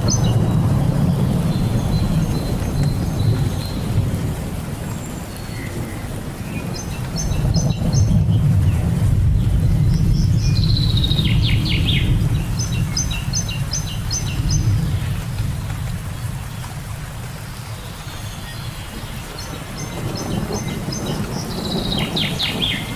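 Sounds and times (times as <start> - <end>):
low rumble of thunder: 0.0 - 22.9
songbirds chirping: 0.0 - 22.9
steady rain: 0.0 - 22.9.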